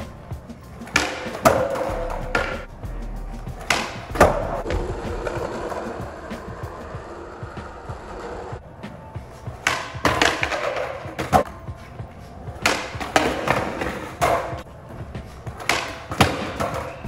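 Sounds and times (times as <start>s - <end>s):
skateboard deck slapping down: 0.0s - 2.7s, 3.4s - 11.5s, 12.5s - 17.0s
skateboard tail clacks: 0.0s - 2.7s, 3.4s - 17.0s
skateboard wheels rolling on concrete: 0.0s - 17.0s.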